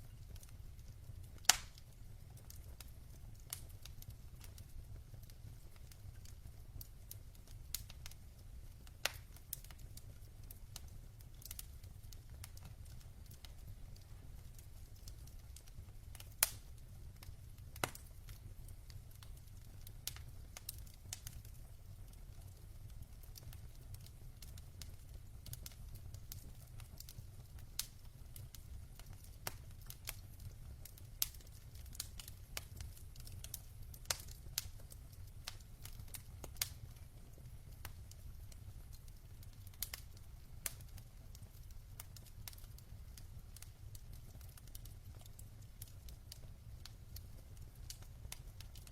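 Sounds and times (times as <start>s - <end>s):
logs crackling in fireplace: 0.0s - 48.9s.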